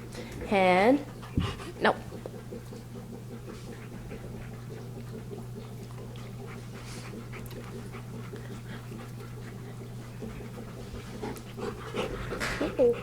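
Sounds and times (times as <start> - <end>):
steady low hum: 0.0 - 13.0
dog panting: 0.2 - 13.0.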